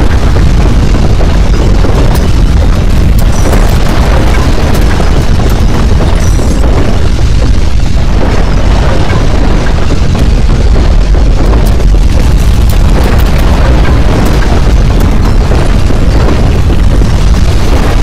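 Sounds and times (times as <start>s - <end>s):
deep rumbling earthquake roar: 0.0s - 18.0s.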